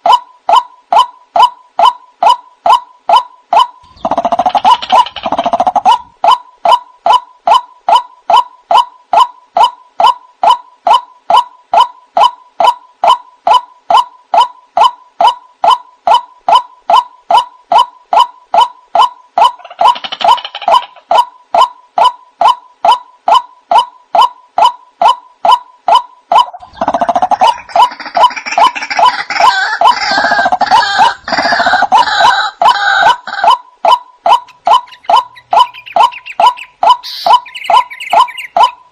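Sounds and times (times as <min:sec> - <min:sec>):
harsh chorus of bird calls: 0:00.0 - 0:11.0, 0:12.2 - 0:38.9
waterhen short repeated calls: 0:00.0 - 0:38.9.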